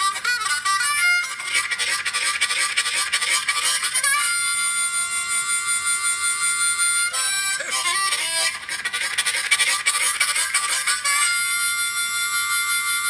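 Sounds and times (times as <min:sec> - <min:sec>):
harmonica playing: 0:00.0 - 0:13.0.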